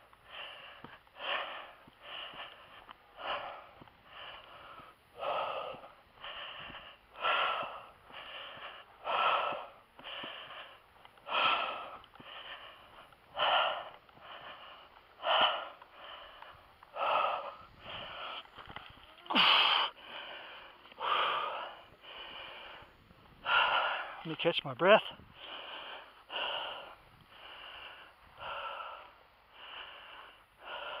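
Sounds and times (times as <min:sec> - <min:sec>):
man breathing hard and wheezing: 0:00.0 - 0:24.3, 0:25.1 - 0:31.0.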